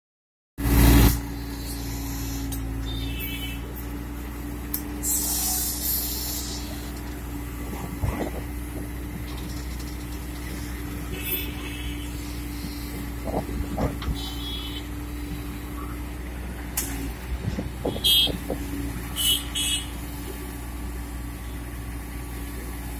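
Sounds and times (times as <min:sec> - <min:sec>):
diesel engine running: 0:00.6 - 0:22.9.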